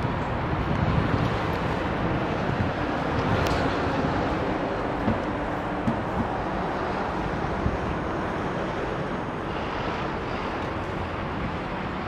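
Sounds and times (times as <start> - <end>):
low rumbling outdoor noise: 0.0 - 12.0
wind buffeting microphone: 0.0 - 12.0.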